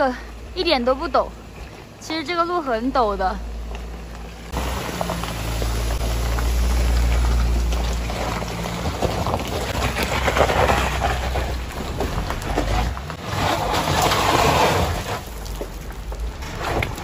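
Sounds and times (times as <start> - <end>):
engines running under load: 0.0 - 17.0
tyres crunching over gravel: 0.0 - 17.0.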